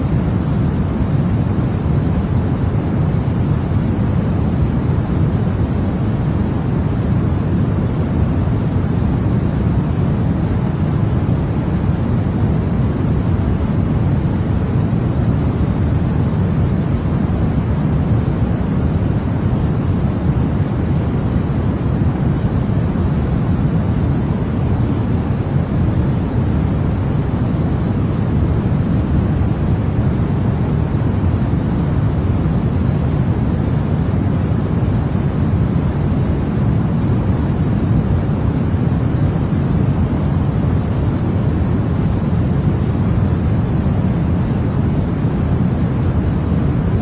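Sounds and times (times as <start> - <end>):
deep white noise: 0.0 - 47.0.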